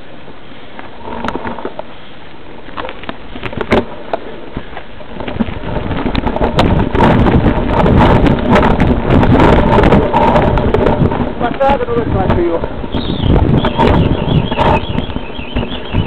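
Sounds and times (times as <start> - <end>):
bike tyres on dirt and stones: 0.0 - 16.0
bike rattling: 0.6 - 16.0.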